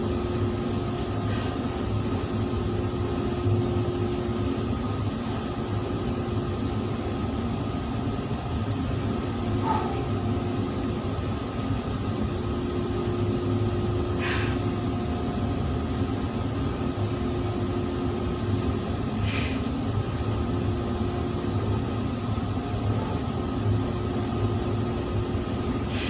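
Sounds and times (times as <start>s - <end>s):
ship machinery drone: 0.0s - 26.0s.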